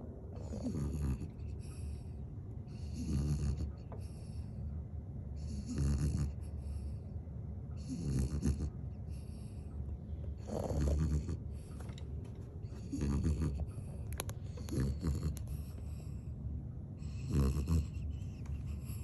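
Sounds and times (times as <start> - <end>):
dog snoring: 0.3 - 4.6, 5.4 - 7.1, 7.8 - 9.7, 10.3 - 12.0, 12.6 - 16.3, 17.0 - 19.0.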